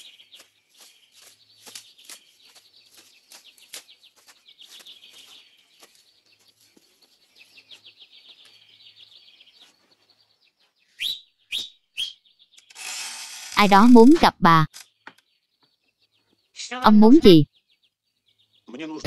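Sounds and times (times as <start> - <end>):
small birds chirping and trilling: 0.0 - 12.8, 14.7 - 16.8, 17.4 - 19.0.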